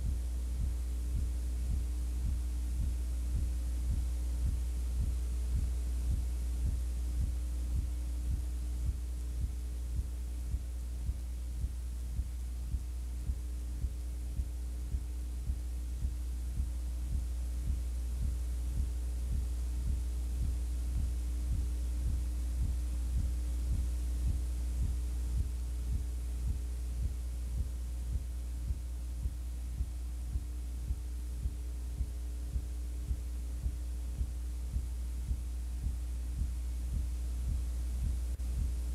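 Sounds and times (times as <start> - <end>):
low electrical hum with pulse: 0.0 - 38.9.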